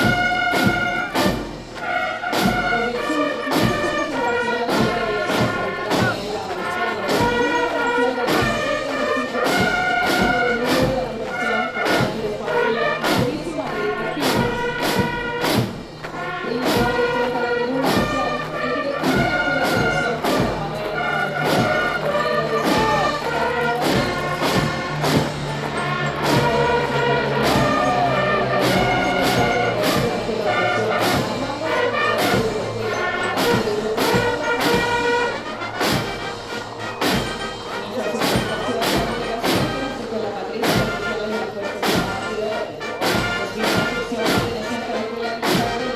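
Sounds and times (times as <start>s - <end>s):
brass band playing a march: 0.0s - 45.9s
steady drum beat: 0.0s - 45.9s.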